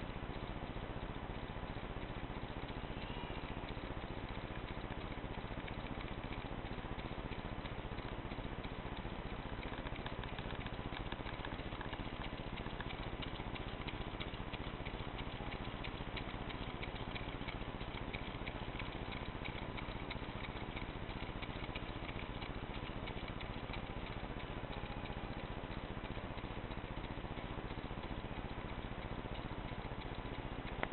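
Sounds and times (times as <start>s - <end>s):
stirling engines mechanical patter: 0.0s - 30.9s.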